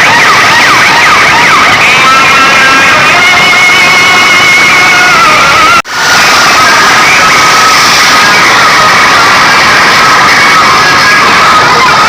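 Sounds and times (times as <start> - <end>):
crowd shouting and cheering: 0.0 - 12.0
loud music: 0.0 - 12.0.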